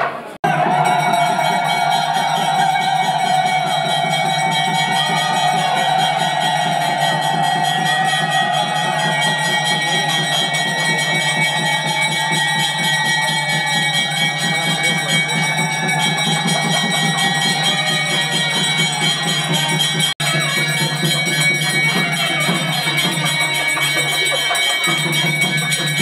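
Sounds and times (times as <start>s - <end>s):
steady high ringing: 0.5s - 26.0s.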